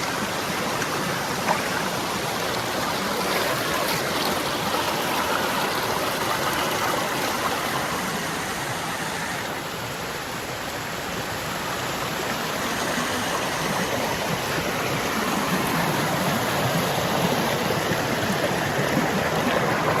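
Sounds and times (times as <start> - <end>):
stream water rushing and gurgling: 0.0 - 20.0.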